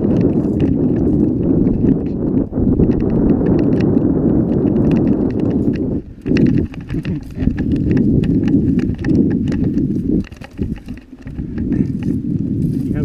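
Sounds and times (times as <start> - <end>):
bike chain and frame rattling: 0.0 - 13.0
tyres rumbling over stones: 0.0 - 13.0.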